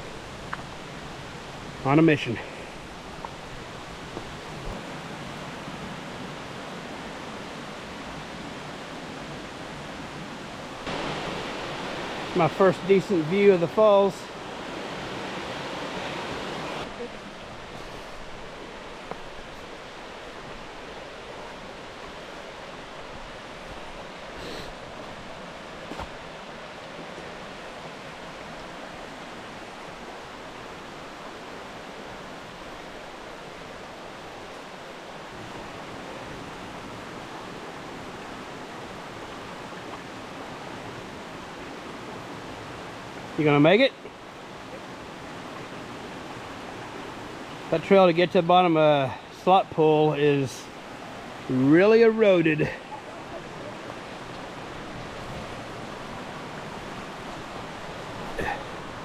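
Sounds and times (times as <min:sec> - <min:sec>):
creek waterfall rushing: 0:00.0 - 0:59.0.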